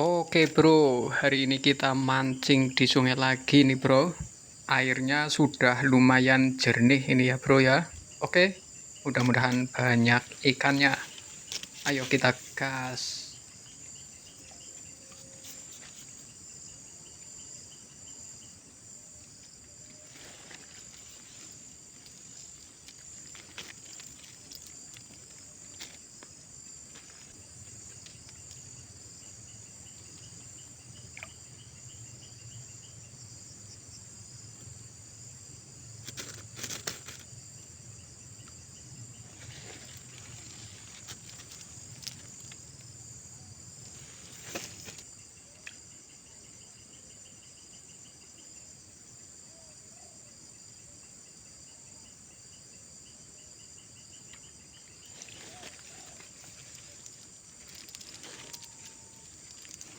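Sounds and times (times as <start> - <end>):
crickets and insects chirping: 0.0 - 59.9.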